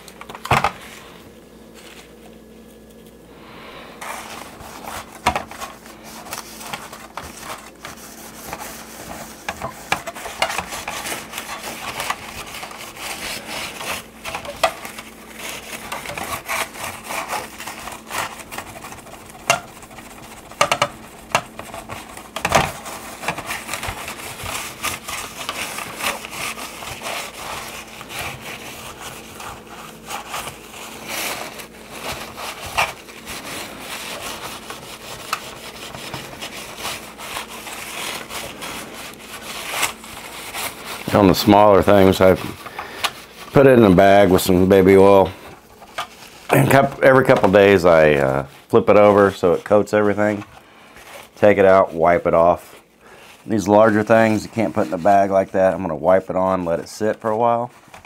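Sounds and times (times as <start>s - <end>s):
cloth rubbing on plastic: 3.9s - 58.0s.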